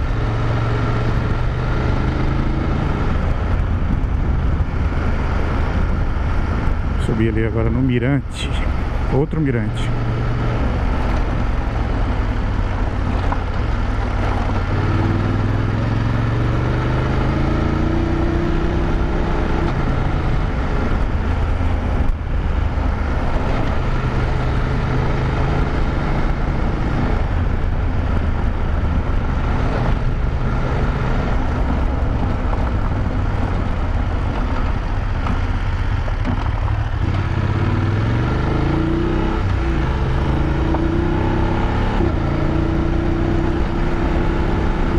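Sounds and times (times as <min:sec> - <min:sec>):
motorcycle engine running: 0:00.0 - 0:07.0, 0:07.7 - 0:41.1
wind and tyre noise: 0:00.0 - 0:44.9.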